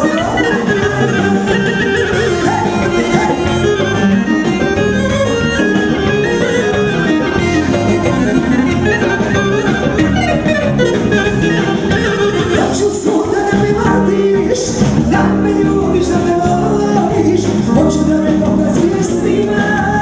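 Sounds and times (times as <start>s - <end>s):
instrumental band music: 0.0s - 20.0s.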